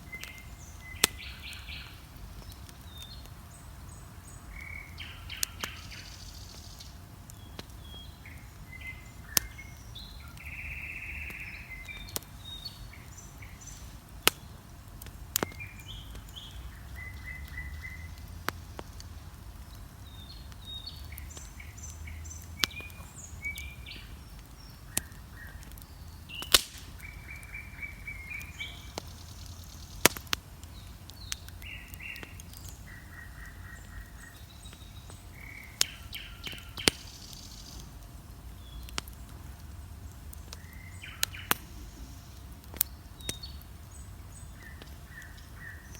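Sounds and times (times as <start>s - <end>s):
bonfire crackling and popping: 0.0s - 45.9s
songbirds chirping: 0.0s - 45.9s.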